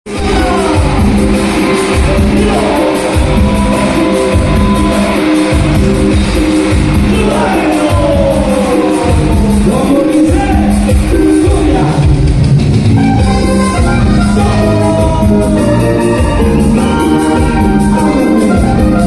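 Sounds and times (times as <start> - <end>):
person singing: 0.0 - 12.3, 13.3 - 19.0
low drum and bass beat: 0.1 - 19.0.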